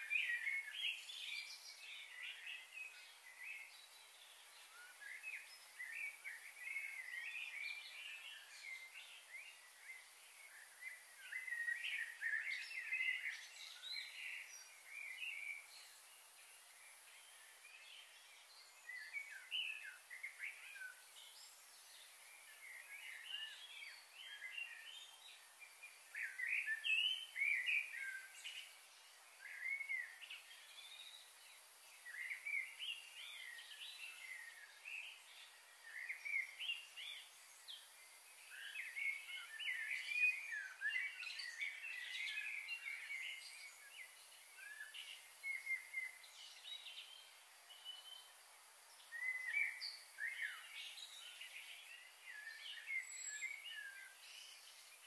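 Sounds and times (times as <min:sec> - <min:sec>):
faint steady hiss: 0:00.0 - 0:55.0
small birds chirping: 0:00.0 - 0:55.0.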